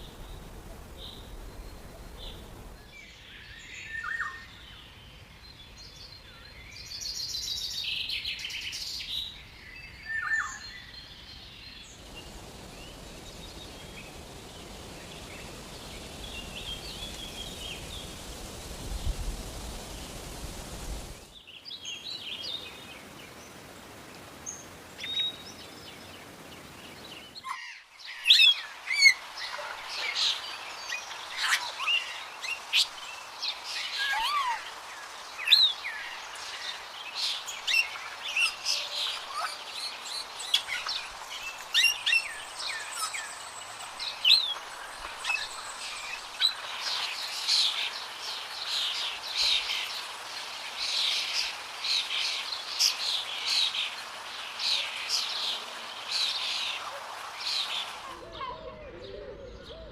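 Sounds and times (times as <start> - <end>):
background hiss: 0.0 - 58.4.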